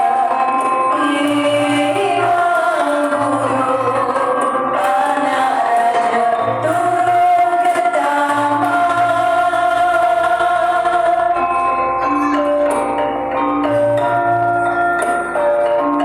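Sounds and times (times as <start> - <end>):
gamelan music: 0.0 - 16.0.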